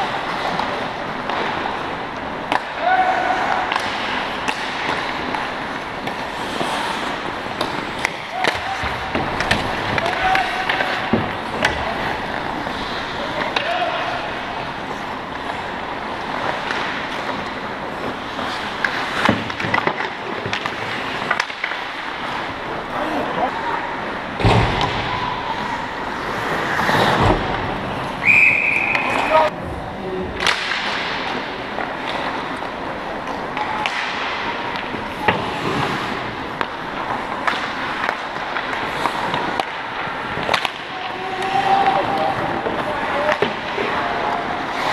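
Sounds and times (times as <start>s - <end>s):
stick and puck clacks: 0.0s - 22.8s, 30.4s - 44.9s
skates scraping ice: 0.0s - 44.9s.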